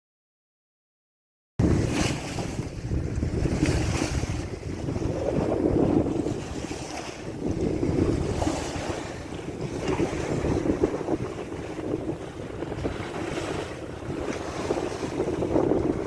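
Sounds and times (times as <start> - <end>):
waves washing around boat: 1.6 - 16.0
wind on microphone: 1.6 - 16.0.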